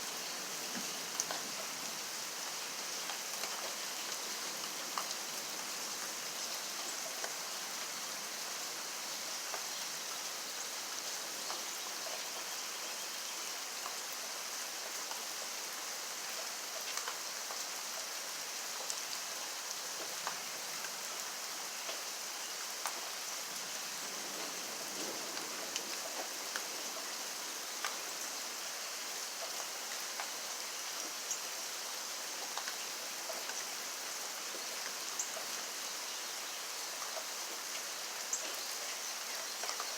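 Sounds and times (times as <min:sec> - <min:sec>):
steady rainfall: 0:00.0 - 0:39.9
raindrops ticking on a surface: 0:00.1 - 0:39.9.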